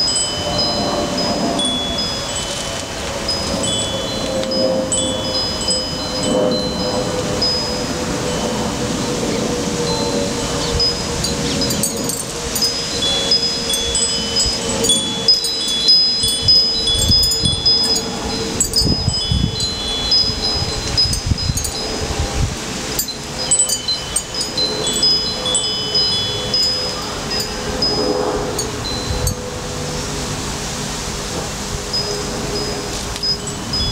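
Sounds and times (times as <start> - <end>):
metal wind chimes tinkling: 0.0 - 33.9
wind rumble on microphone: 0.0 - 33.9.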